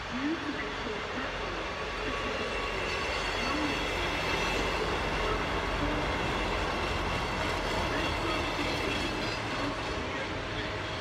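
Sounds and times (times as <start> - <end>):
diesel train engine running: 0.0 - 11.0
train wheels on rails: 0.0 - 11.0.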